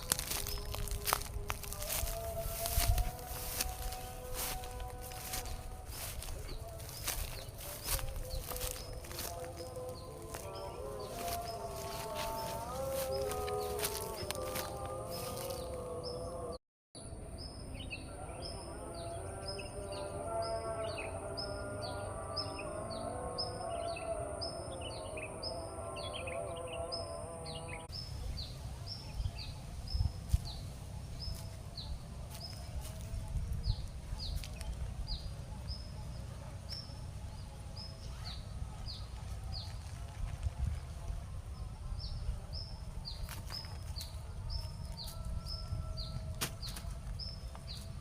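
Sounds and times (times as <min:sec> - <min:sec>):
bird chirping: 0:00.0 - 0:48.0.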